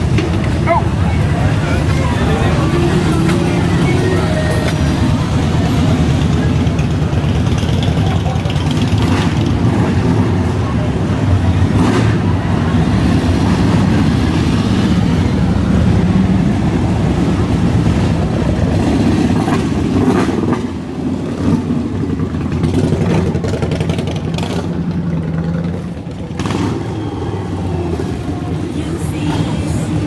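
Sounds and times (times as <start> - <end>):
motorcycle engines running: 0.0 - 30.0.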